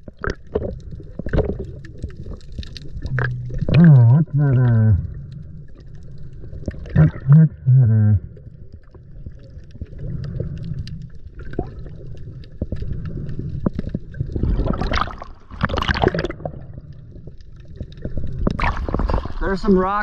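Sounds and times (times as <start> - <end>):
small clicks and crackles: 0.0 - 7.0, 8.3 - 19.7
bubbling gushes: 0.0 - 20.0
low underwater rumble: 0.0 - 20.0.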